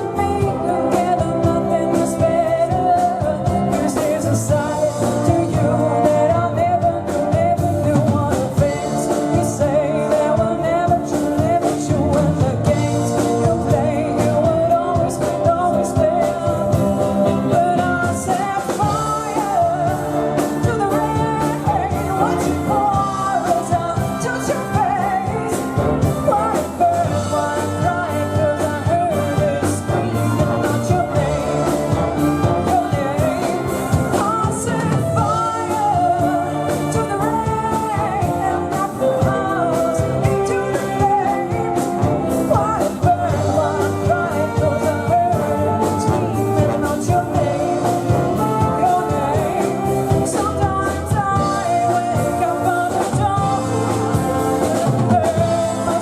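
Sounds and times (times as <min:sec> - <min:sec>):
big band playing live: 0:00.0 - 0:56.0.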